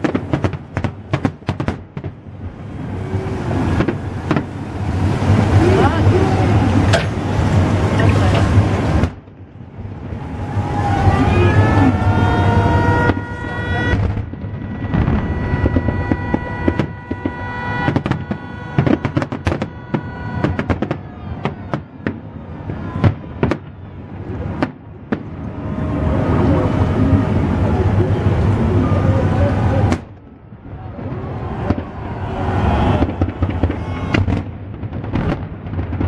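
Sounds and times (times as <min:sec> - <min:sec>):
fireworks bangs and crackles: 0:00.0 - 0:36.0
loud rushing noise: 0:00.0 - 0:36.0.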